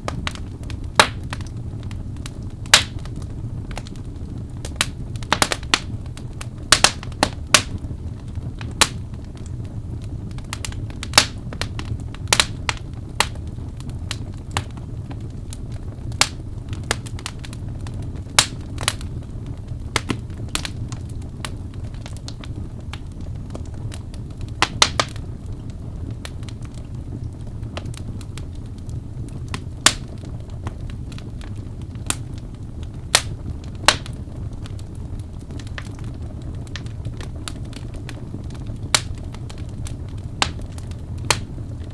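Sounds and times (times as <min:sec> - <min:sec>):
fire crackling: 0:00.0 - 0:41.9.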